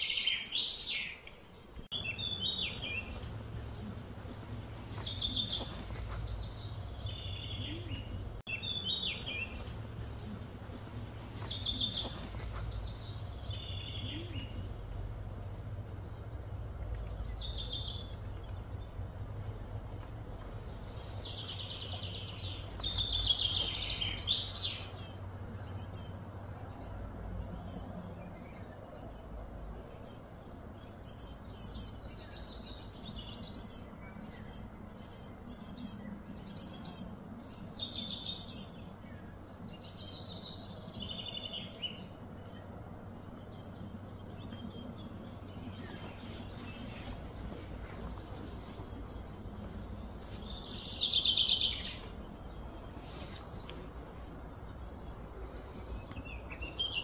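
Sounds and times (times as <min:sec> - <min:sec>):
birds singing and chirping: 0:00.0 - 0:57.0
low background hum: 0:00.0 - 0:57.0.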